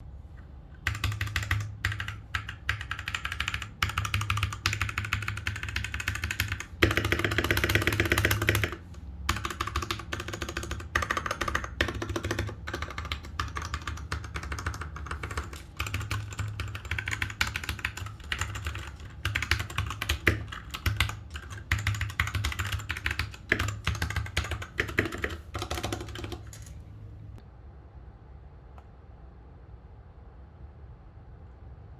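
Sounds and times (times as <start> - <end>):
mechanical keyboard typing: 0.8 - 26.8.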